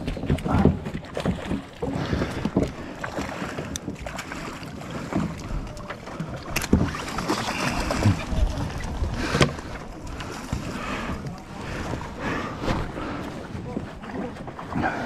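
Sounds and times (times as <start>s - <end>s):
water lapping around a raft: 0.0s - 15.0s.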